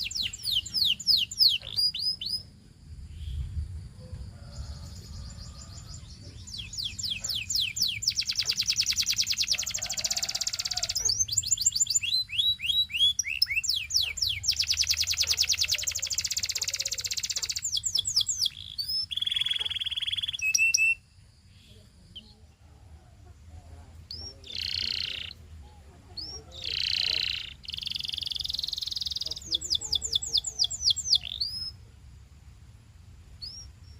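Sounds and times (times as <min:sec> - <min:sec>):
canary singing trills: 0:00.0 - 0:03.5, 0:04.4 - 0:31.9, 0:33.4 - 0:33.9.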